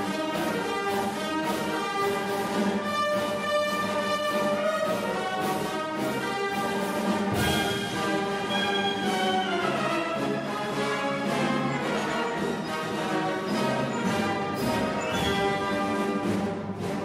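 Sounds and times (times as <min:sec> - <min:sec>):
orchestral music with brass and strings: 0:00.0 - 0:17.0.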